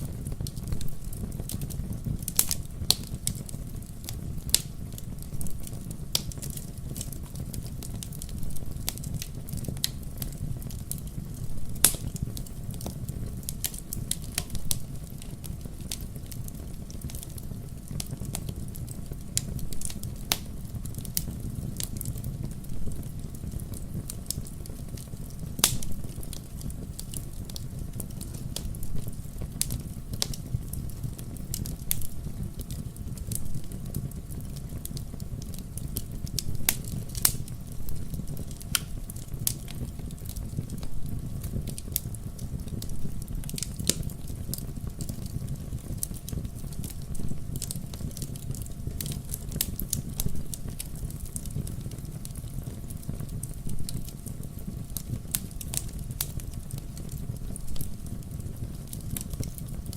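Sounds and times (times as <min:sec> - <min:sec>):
logs crackling and popping in fire: 0:00.0 - 0:59.9
low rumble of flames: 0:00.0 - 0:59.9.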